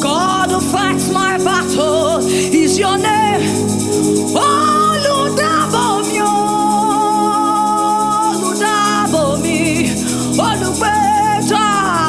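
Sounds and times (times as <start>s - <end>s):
shaker rhythm: 0.0s - 12.0s.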